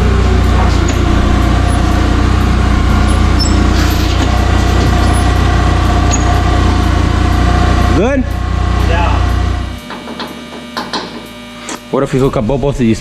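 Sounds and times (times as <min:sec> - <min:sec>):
machine droning: 0:00.0 - 0:13.0.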